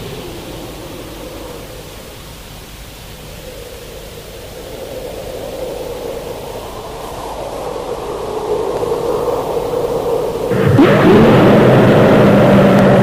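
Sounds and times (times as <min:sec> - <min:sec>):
faint steady tone: 0:00.0 - 0:10.8
hissing noisy drone: 0:00.0 - 0:13.0.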